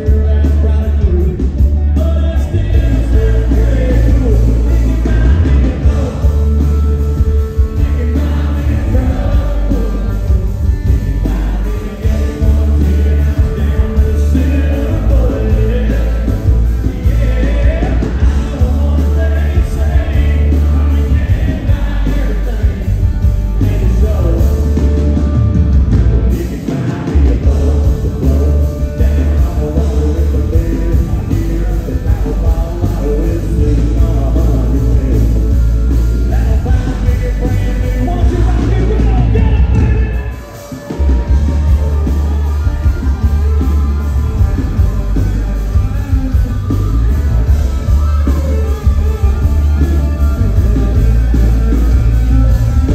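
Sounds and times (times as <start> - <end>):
electric guitar: 0.0 - 52.9
live country-rock band: 0.0 - 52.9
man singing lead vocal: 0.0 - 52.9.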